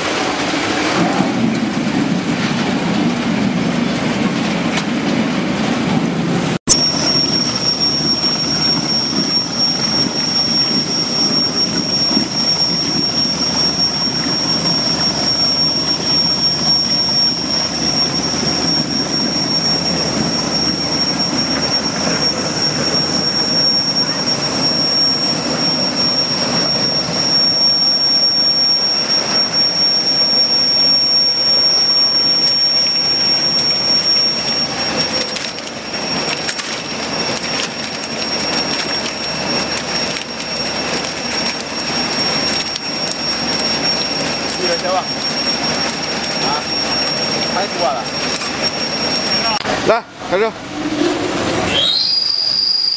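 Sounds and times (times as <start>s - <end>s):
churning frothing water: 0.0s - 52.9s
high-pitched whine: 0.0s - 52.9s
machinery rushing: 0.0s - 52.9s.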